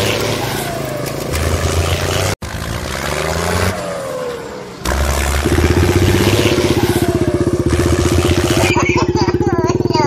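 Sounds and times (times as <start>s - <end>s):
small tractor engine running: 0.0s - 10.0s.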